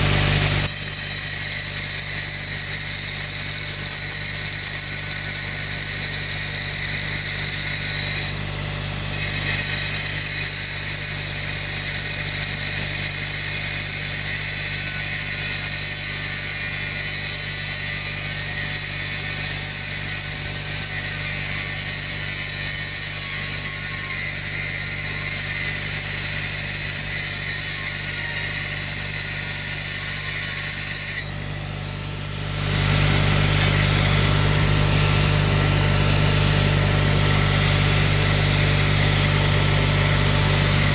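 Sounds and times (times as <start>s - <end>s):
electric power tool running: 0.0s - 40.9s.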